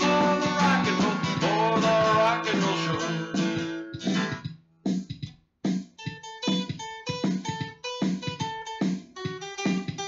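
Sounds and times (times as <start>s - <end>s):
guitar plucked notes: 0.0s - 4.5s, 6.0s - 10.0s.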